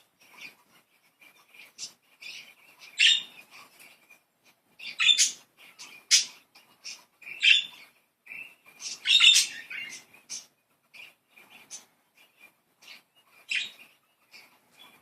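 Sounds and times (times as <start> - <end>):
budgies chattering: 0.0 - 15.0.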